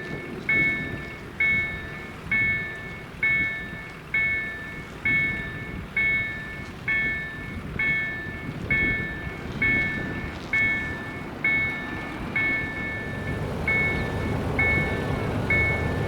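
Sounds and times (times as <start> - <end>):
low rumbling noise: 0.0 - 16.0.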